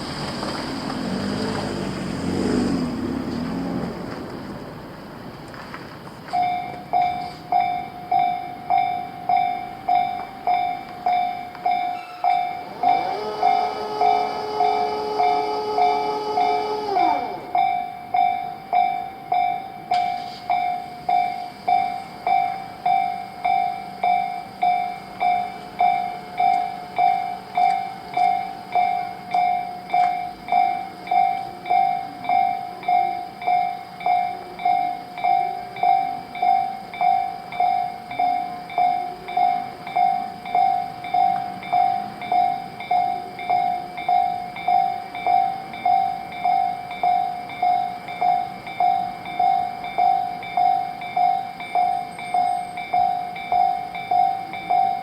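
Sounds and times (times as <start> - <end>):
train running: 0.0 - 55.0
level crossing bell ringing: 6.3 - 16.8, 17.5 - 55.0.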